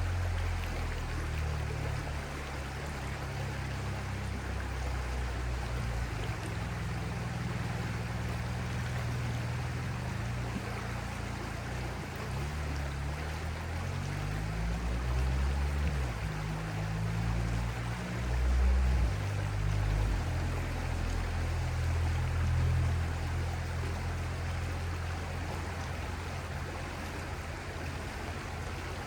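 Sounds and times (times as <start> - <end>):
low hum: 0.0 - 29.0
stream babbling: 0.0 - 29.0.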